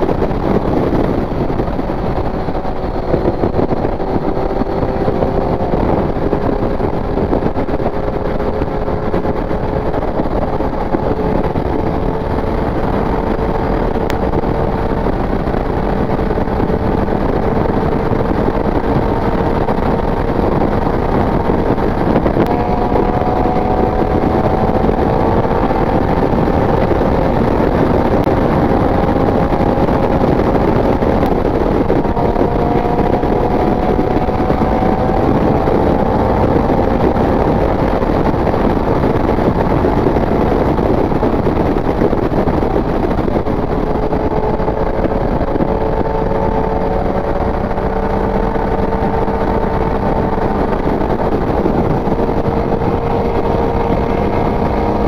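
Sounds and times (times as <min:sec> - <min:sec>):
heavy wind noise: 0:00.0 - 0:55.0
motorcycle engine pulling uphill: 0:00.0 - 0:55.0.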